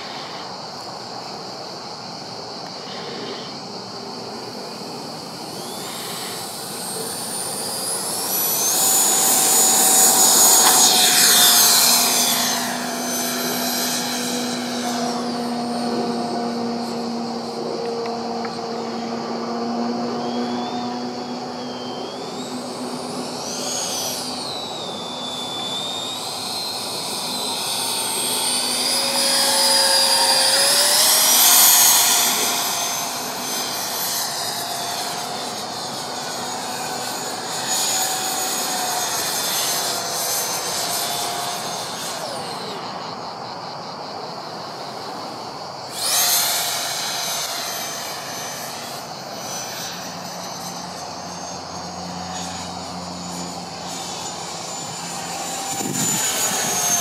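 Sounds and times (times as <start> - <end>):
model jet fan whining: 0.0 - 57.0.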